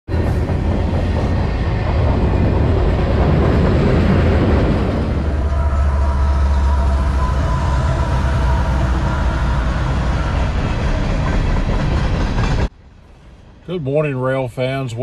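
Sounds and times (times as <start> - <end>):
hopper cars rolling on rails: 0.1 - 12.7
diesel locomotive engines rumbling: 0.1 - 15.0.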